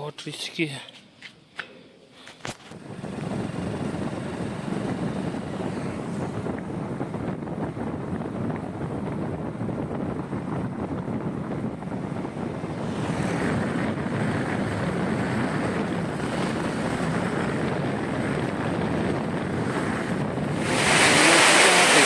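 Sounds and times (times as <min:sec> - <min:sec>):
wind buffeting microphone: 0:02.6 - 0:22.0.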